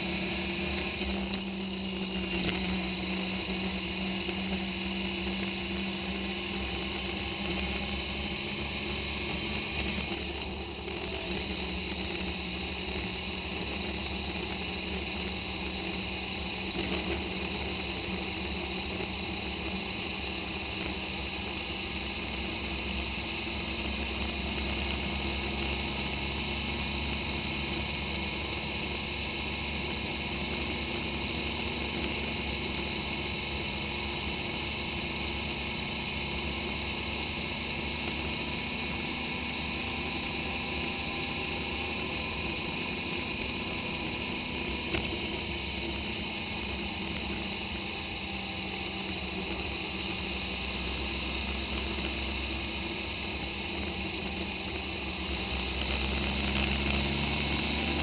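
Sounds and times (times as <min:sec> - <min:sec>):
motorcycle engine drone: 0:00.0 - 0:58.0
wind and road noise: 0:00.0 - 0:58.0.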